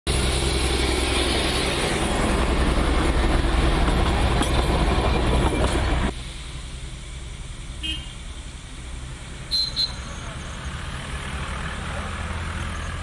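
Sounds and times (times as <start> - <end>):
train engine and wheels rumbling: 0.1 - 13.0.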